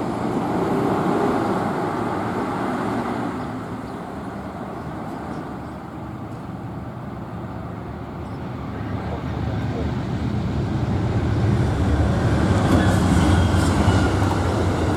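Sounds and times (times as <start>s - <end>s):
road noise: 0.0s - 14.9s.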